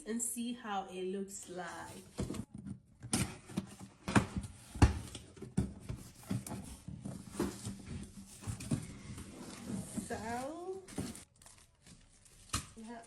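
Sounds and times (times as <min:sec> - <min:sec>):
cardboard packaging handled: 0:01.9 - 0:13.0.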